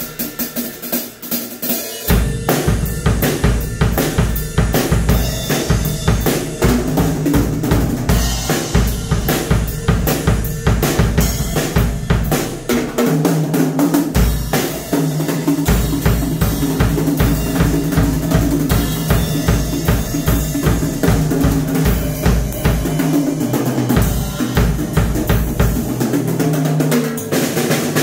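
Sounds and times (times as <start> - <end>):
drum kit rock groove: 0.0 - 28.0.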